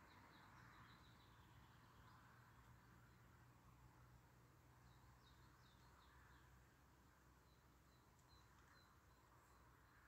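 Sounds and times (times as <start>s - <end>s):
faint songbird calls: 0.0s - 3.4s, 4.8s - 10.0s.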